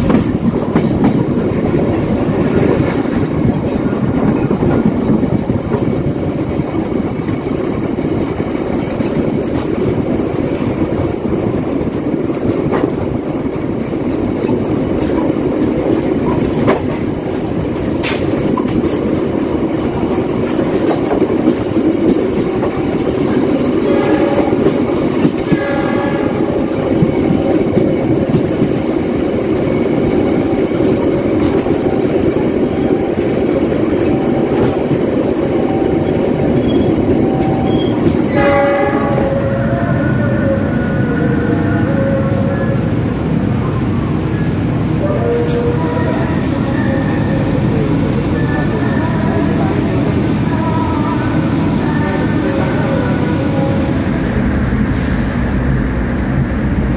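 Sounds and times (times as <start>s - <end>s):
train wheels rumbling on track: 0.0s - 56.9s.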